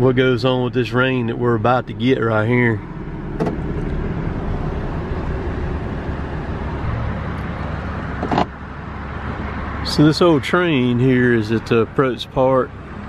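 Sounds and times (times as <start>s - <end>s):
road and engine noise: 0.0s - 13.0s.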